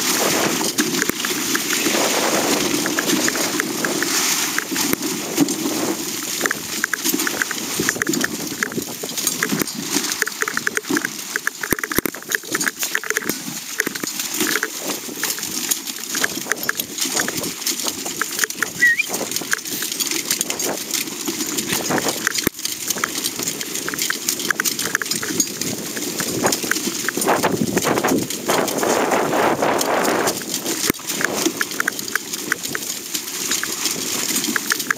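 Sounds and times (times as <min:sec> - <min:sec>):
sled knocks and clatter: 0:00.0 - 0:34.9
sled scraping over heather: 0:00.0 - 0:34.9.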